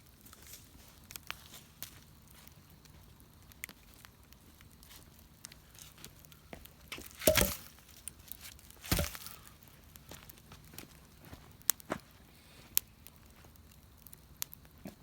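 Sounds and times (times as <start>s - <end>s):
wood bonfire crackling: 0.0s - 15.0s.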